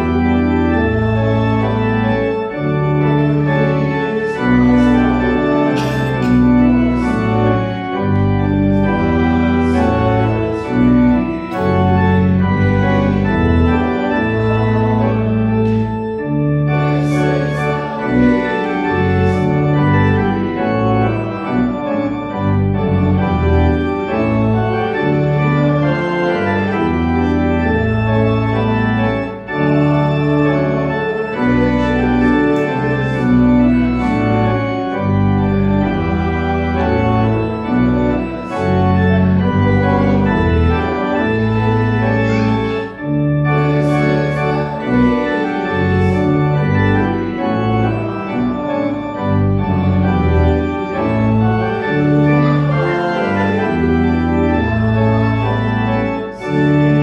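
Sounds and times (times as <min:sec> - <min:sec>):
church organ chords: 0:00.0 - 0:57.0.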